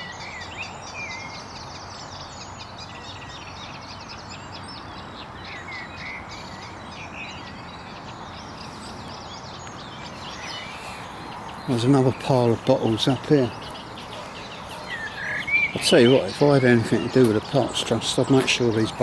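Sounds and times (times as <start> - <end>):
background hiss: 0.0 - 19.0
birds twittering: 0.0 - 19.0.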